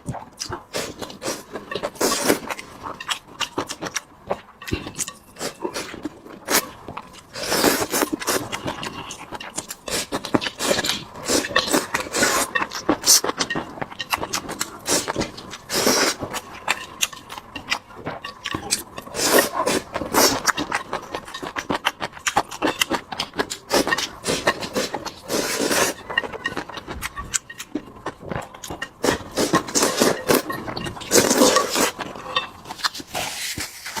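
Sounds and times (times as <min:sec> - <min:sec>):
person chewing and smacking: 0:00.0 - 0:33.7.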